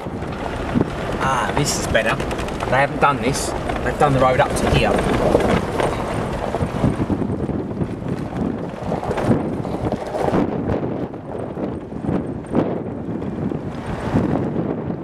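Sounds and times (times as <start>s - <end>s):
knocks and rattles from bumps: 0.0s - 12.6s
off-road vehicle driving: 0.0s - 15.0s
wind on microphone: 0.0s - 15.0s.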